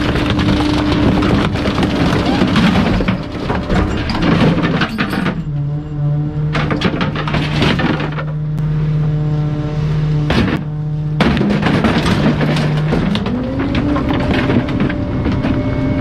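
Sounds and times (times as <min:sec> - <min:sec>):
items cracking and crashing: 0:00.0 - 0:05.6, 0:06.5 - 0:08.4, 0:10.3 - 0:16.0
engine and hydraulic drone: 0:00.0 - 0:16.0.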